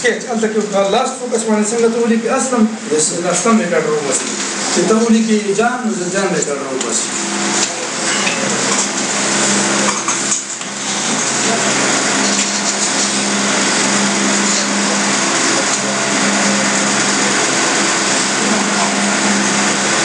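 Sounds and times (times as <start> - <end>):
mechanical hum and hiss: 0.0 - 20.0.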